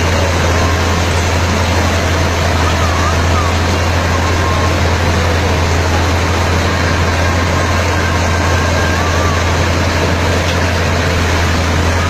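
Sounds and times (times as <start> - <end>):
combine harvester engine running: 0.0 - 12.0.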